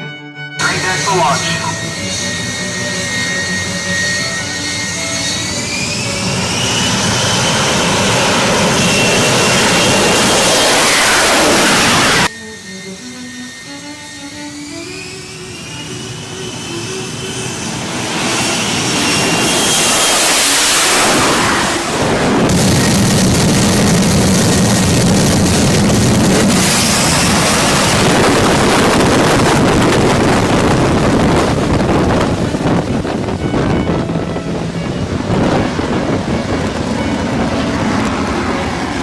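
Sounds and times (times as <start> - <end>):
jet engine whine spooling up: 0.6 - 39.0.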